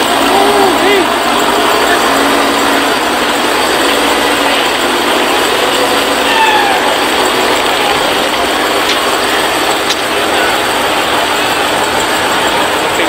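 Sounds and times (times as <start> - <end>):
racing car engines roaring: 0.0 - 13.0.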